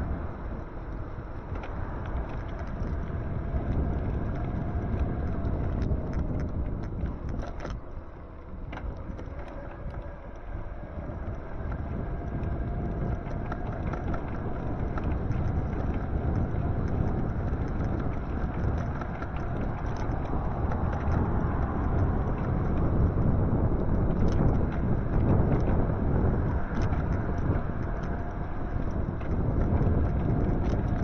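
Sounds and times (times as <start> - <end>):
road rumble: 0.0 - 31.0
wind buffeting microphone: 0.0 - 31.0.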